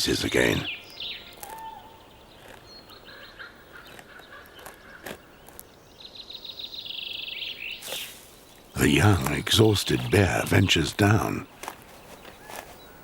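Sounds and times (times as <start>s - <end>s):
forest birds chirping and whistling: 0.0s - 13.0s.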